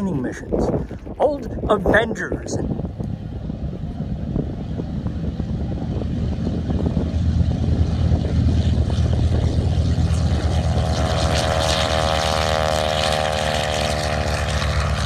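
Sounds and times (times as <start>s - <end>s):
propeller plane engine throbbing: 0.0s - 15.0s
higher steady engine tone: 2.6s - 15.0s.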